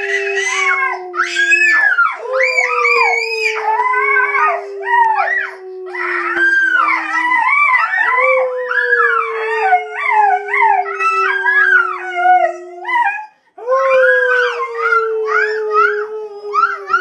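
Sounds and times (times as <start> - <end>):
dogs howling and yipping: 0.0 - 17.0.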